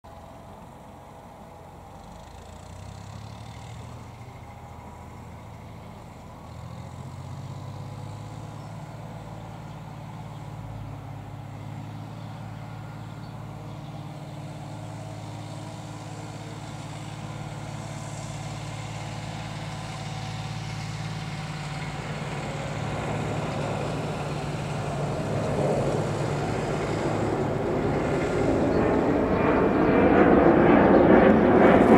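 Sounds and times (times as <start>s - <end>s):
tractor diesel engine running: 0.1s - 29.6s.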